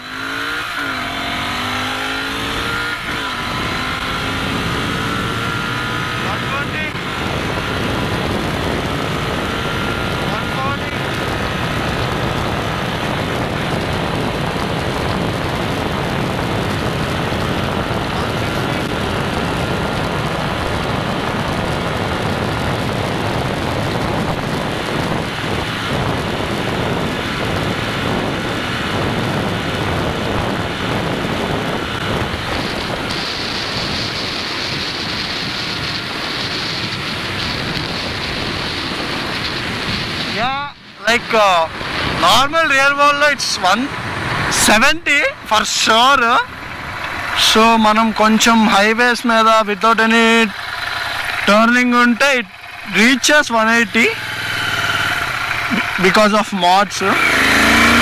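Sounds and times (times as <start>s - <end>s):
motorcycle engine at high revs: 0.0s - 58.0s
wind rushing over microphone: 0.0s - 58.0s.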